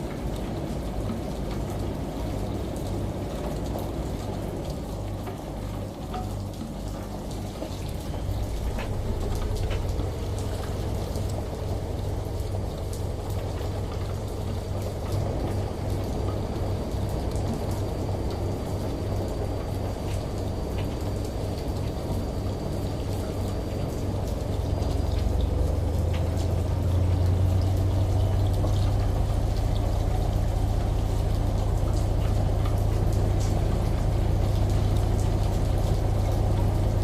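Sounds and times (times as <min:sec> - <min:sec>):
rain pattering: 0:00.0 - 0:37.0
washing machine hum: 0:00.0 - 0:37.0.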